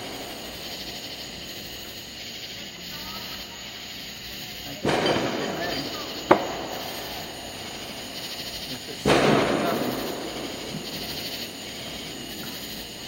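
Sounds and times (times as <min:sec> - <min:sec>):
firework loud bang: 0:00.0 - 0:02.3, 0:04.6 - 0:13.0.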